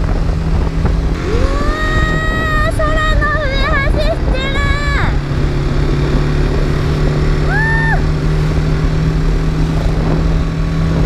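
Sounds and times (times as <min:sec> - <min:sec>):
motorcycle engine running: 0:00.0 - 0:11.0
wind noise: 0:00.0 - 0:11.0.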